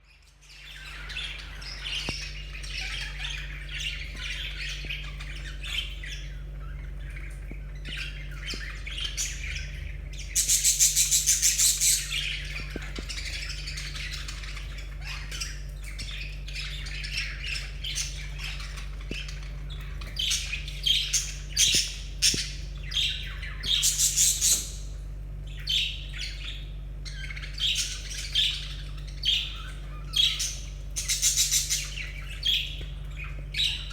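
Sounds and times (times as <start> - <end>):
budgerigars chattering: 0.6 - 33.9
sharp loud bird calls: 0.7 - 33.9.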